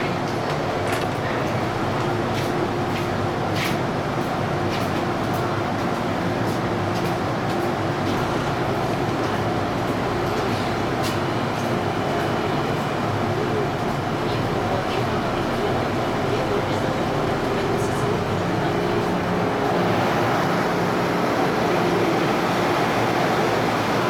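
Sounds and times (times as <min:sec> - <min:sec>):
station ambience: 0:00.0 - 0:24.0
train equipment hum: 0:00.0 - 0:24.0.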